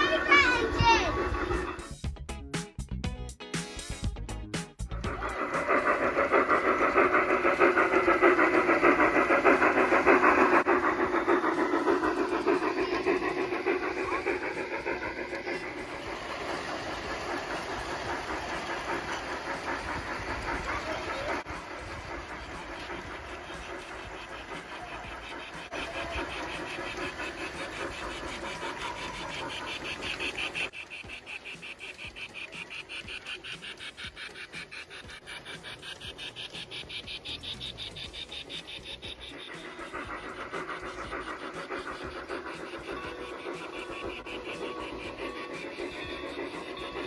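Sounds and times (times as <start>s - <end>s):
model steam locomotive clattering: 0.0s - 2.0s, 5.0s - 47.0s
fast even ticking: 5.0s - 47.0s.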